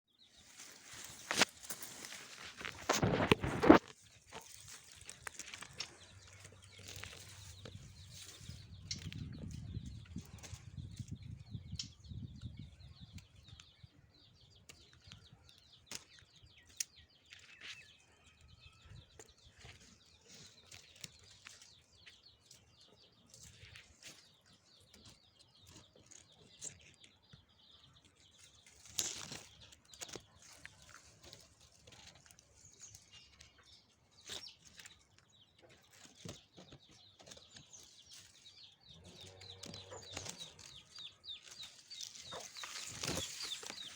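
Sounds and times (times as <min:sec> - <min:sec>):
rustles: 0:00.2 - 0:11.1, 0:19.1 - 0:43.9.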